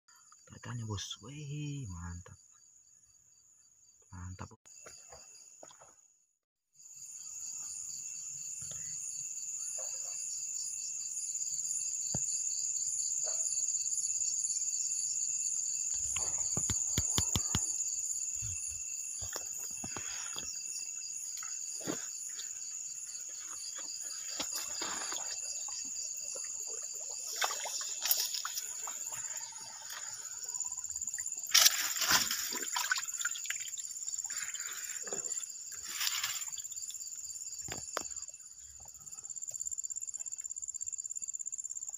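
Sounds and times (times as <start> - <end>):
insects trilling: 0.1 - 5.9, 6.8 - 41.9.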